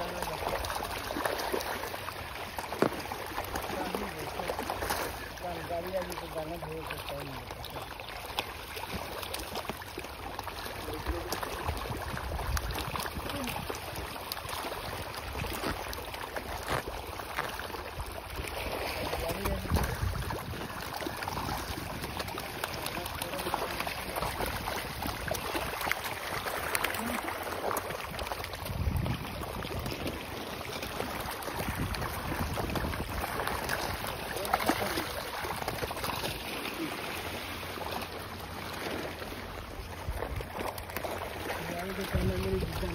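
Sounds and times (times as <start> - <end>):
fish splashing in water: 0.0 - 42.9.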